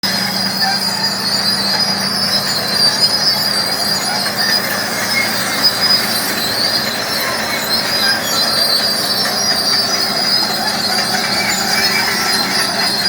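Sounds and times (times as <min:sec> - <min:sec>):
bulldozer diesel engine hum: 0:00.0 - 0:13.0.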